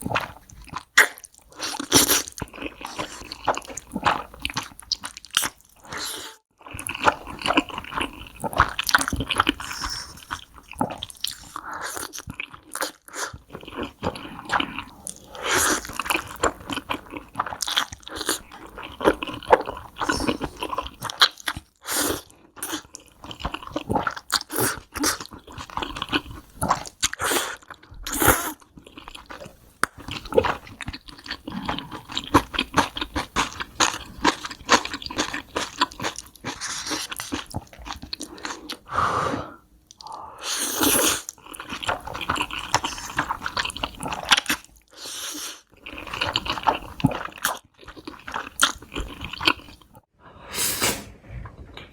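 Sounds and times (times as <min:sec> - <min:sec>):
person chewing noodles: 0:00.0 - 0:39.0, 0:39.9 - 0:50.1.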